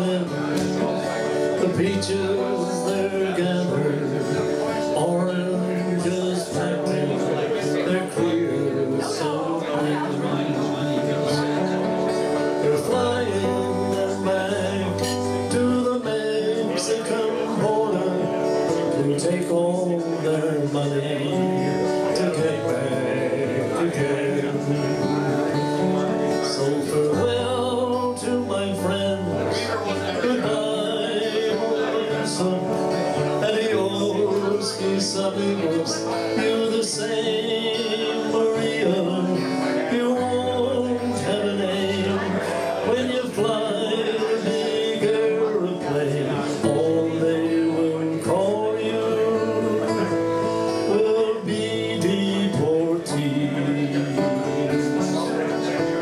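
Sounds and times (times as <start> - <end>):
man singing a folk ballad: 0.0 - 56.0
strummed acoustic guitar: 0.0 - 56.0.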